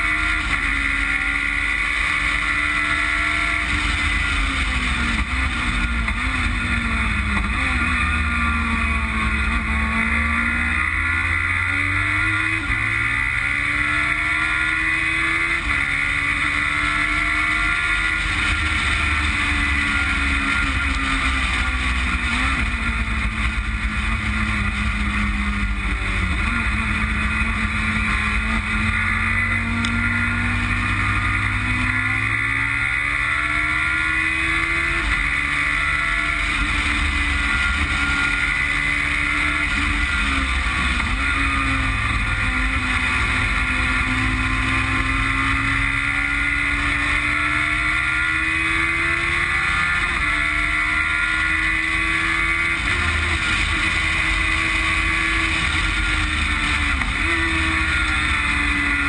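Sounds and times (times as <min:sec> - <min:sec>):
motorcycle engine revving hard: 0:00.0 - 0:59.0.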